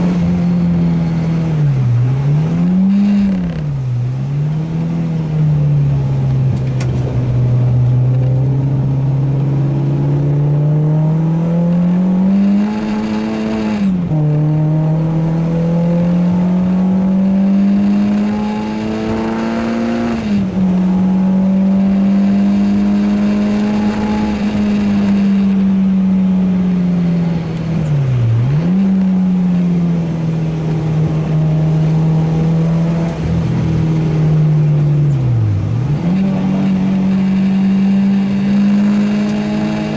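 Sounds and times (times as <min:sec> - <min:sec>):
car engine revving under load: 0:00.0 - 0:39.9.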